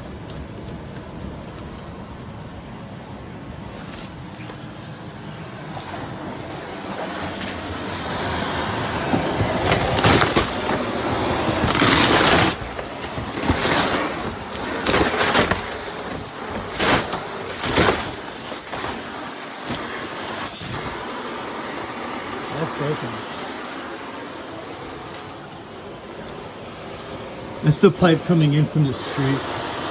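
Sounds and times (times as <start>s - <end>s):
water spraying from pipe: 5.3s - 29.9s.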